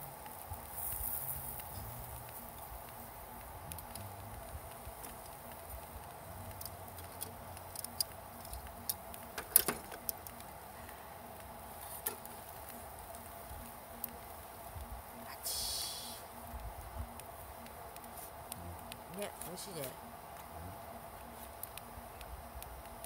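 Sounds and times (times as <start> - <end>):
faint steady hum: 0.0 - 23.0
light clicks and taps: 0.2 - 15.2, 16.3 - 23.0.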